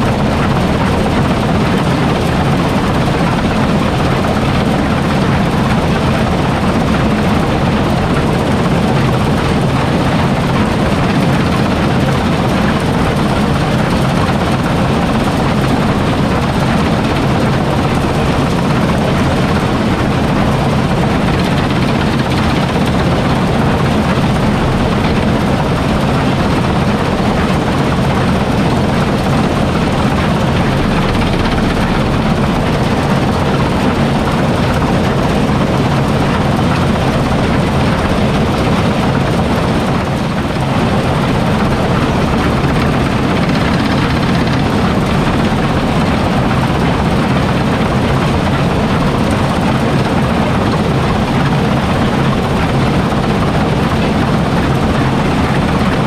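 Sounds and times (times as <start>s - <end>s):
farm machinery engine drone: 0.0s - 56.0s
rushing mechanical noise: 0.0s - 56.0s.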